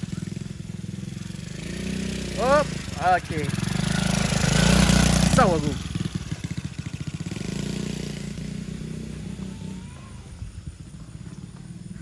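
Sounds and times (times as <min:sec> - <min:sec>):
motocross bike engine: 0:00.0 - 0:12.0.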